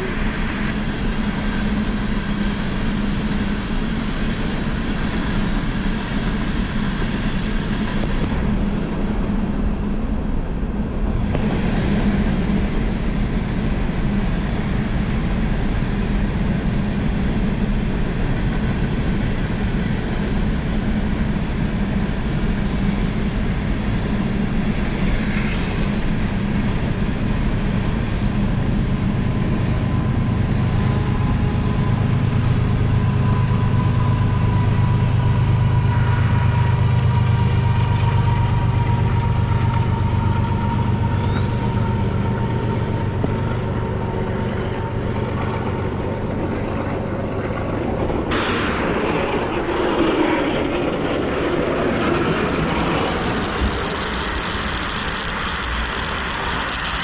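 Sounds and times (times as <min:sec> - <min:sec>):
low hum: 0:00.0 - 0:57.0
train rolling: 0:00.0 - 0:57.0.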